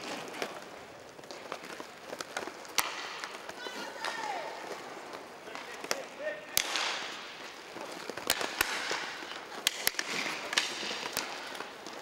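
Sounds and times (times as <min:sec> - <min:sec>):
hockey sticks clacking on puck: 0:00.0 - 0:12.0.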